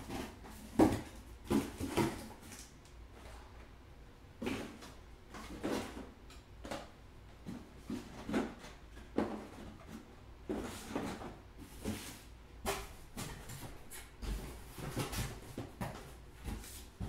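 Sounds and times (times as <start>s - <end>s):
card packs rustling and knocking: 0.0s - 2.7s, 4.4s - 17.0s.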